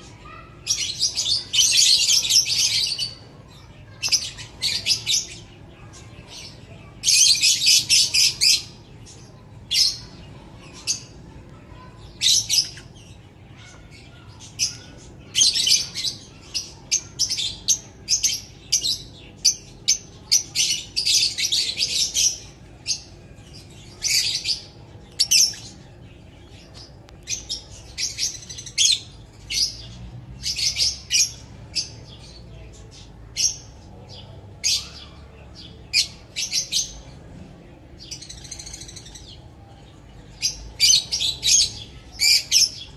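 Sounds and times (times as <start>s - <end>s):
lovebirds chattering: 0.0s - 42.9s.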